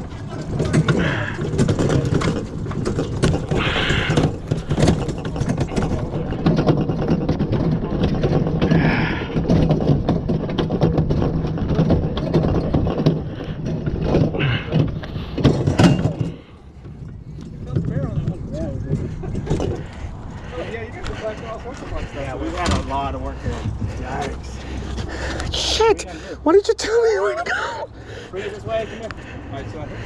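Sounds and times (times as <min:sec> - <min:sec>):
knocks and clatter: 0:00.0 - 0:25.9
scraping: 0:00.0 - 0:26.5
hand truck rolling rumble: 0:00.0 - 0:30.0.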